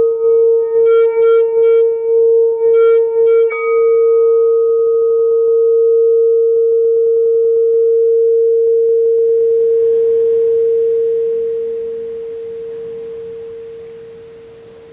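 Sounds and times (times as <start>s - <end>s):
singing bowl ringing: 0.0s - 14.9s.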